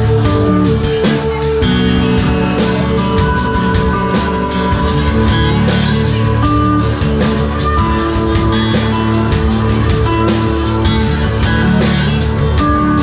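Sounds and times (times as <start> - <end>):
drums keeping a beat: 0.0 - 13.0
guitar: 0.0 - 13.0
rock band playing: 0.0 - 13.0.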